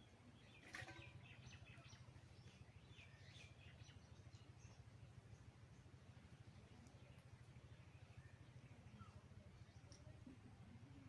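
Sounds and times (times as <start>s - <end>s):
faint bird chirps: 0.0s - 11.0s
low steady hum: 0.0s - 11.0s.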